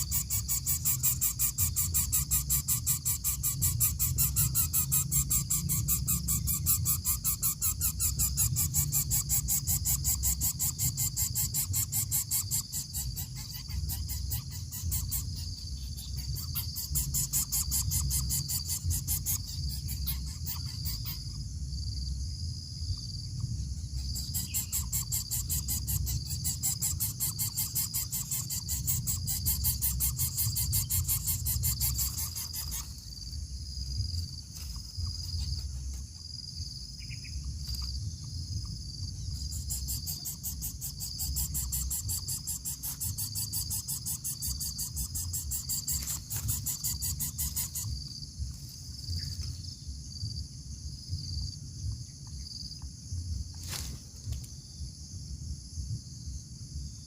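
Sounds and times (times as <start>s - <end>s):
cricket trill: 0.0s - 57.0s
rattling insect chirr: 0.0s - 57.0s.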